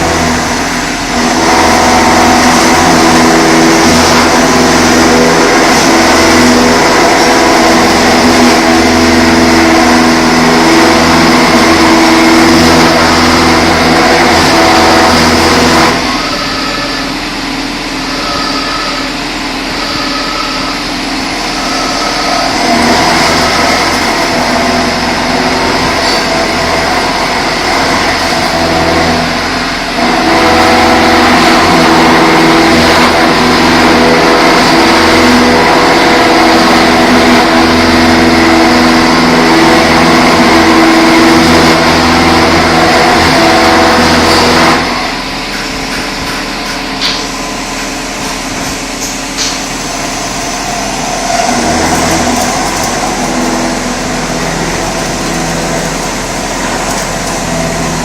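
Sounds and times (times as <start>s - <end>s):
machine hum: 0.0s - 58.0s
milling machine cutting: 0.0s - 58.0s.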